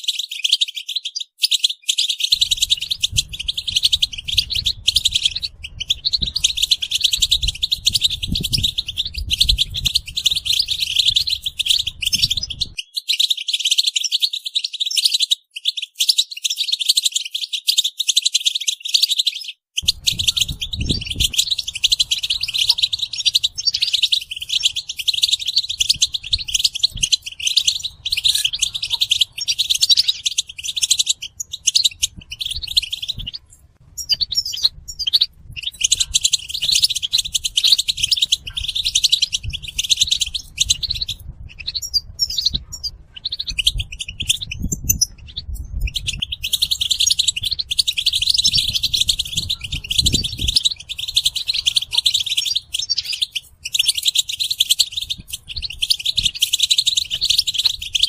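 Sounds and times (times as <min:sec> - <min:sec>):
goldfinches twittering: 0:00.4 - 0:13.7, 0:19.8 - 0:58.0.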